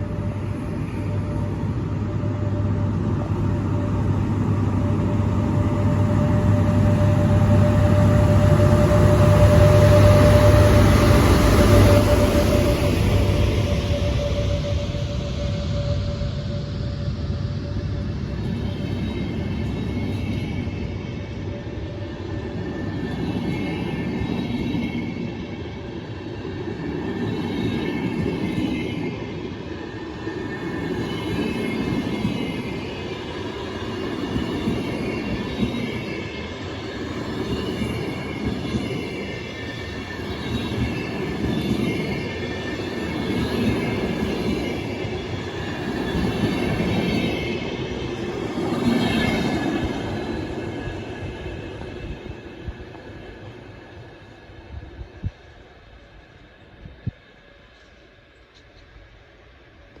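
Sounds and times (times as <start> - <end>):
train rolling on rails: 0.0 - 60.0.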